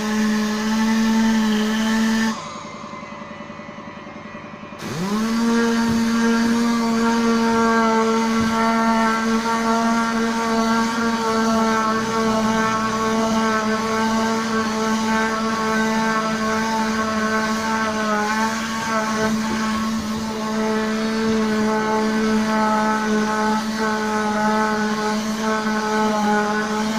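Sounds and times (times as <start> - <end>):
air-driven cleaning tool droning: 0.0 - 26.9.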